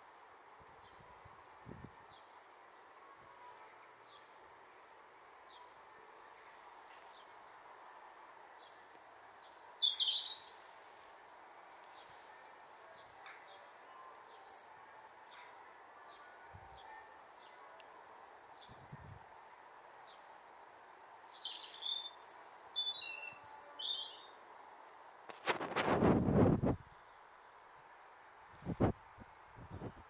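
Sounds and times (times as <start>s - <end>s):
faint background hiss: 0.0s - 30.0s.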